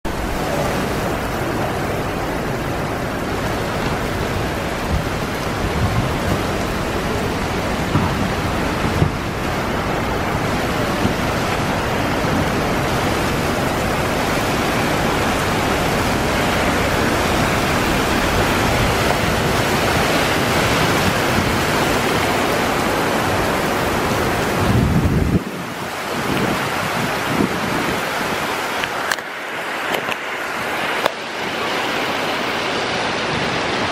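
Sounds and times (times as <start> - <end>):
heavy rain on pavement: 0.0 - 33.9.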